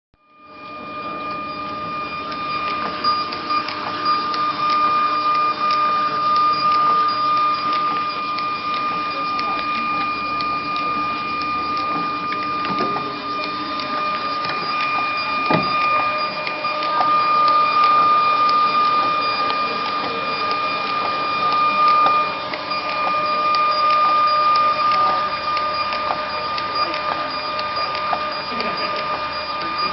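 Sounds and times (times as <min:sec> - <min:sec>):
label printer motor whine: 0:00.2 - 0:29.9
sharp printer clicks: 0:01.6 - 0:29.9.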